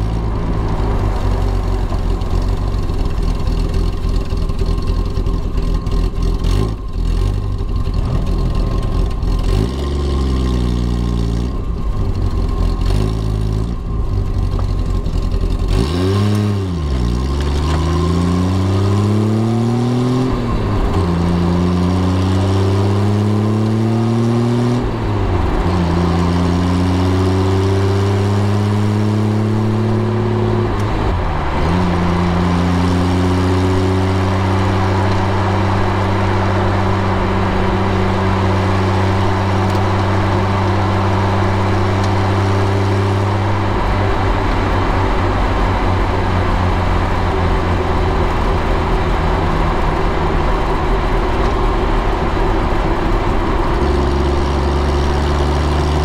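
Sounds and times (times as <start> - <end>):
sports car engine accelerating: 0.0 - 56.0.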